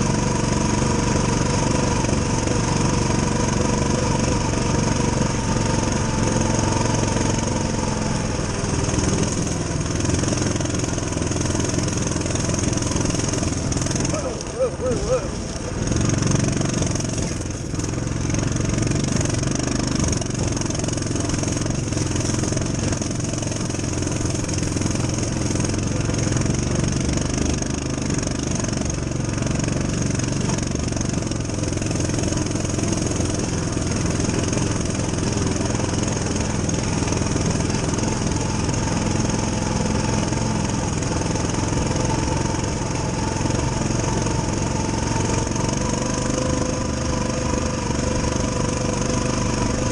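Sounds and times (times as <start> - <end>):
mini bike engine running: 0.0 - 49.9.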